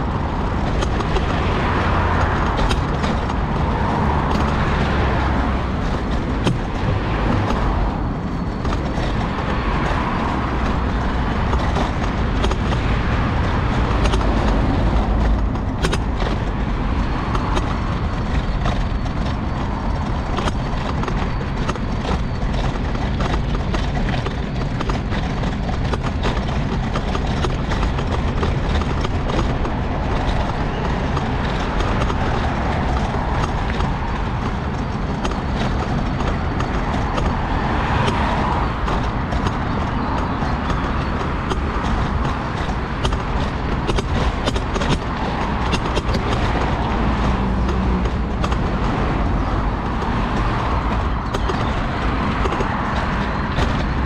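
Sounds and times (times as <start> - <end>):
clicks and rattles: 0.0 - 54.0
mobility scooter rumble: 0.0 - 54.0
road traffic passing: 0.0 - 54.0.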